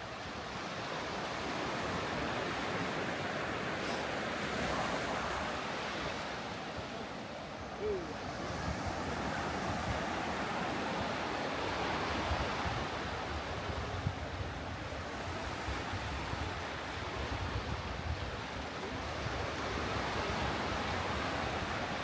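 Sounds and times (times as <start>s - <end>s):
surf on sandy beach: 0.0s - 22.0s.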